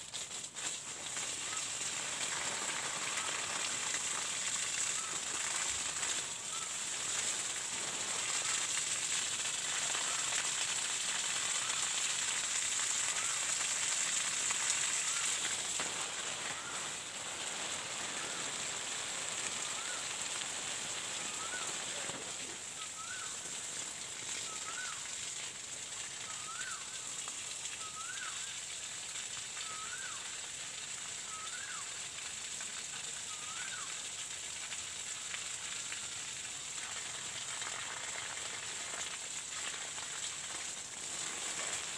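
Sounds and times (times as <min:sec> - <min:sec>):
hose water spattering on leaves: 0:00.0 - 0:41.9.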